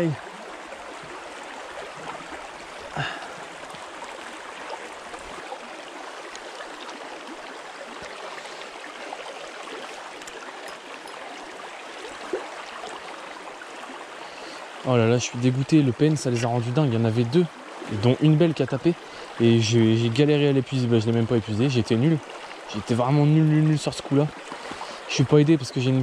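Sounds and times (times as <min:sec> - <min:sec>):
stream water running over stones: 0:00.0 - 0:26.0.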